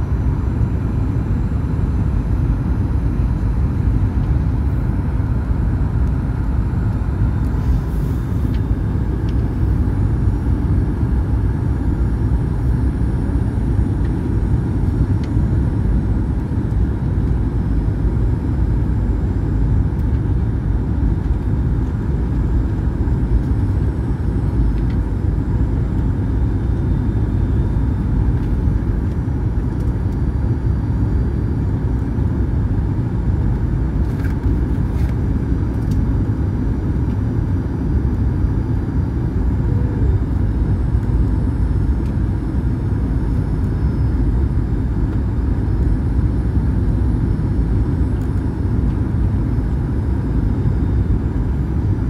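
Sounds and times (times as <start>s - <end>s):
airflow over aircraft fuselage: 0.0s - 52.0s
jet engines: 0.0s - 52.0s.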